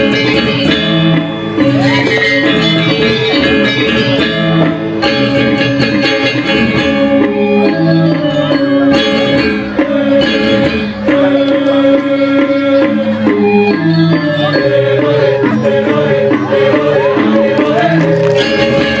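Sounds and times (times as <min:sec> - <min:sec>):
gamelan ensemble playing: 0:00.0 - 0:19.0.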